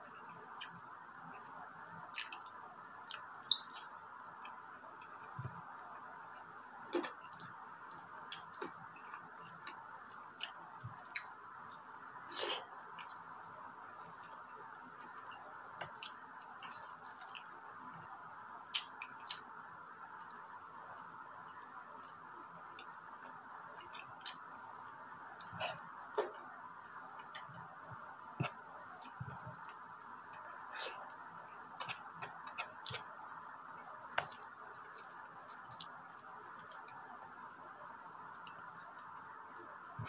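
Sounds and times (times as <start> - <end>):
faint hum: 0.0 - 40.0.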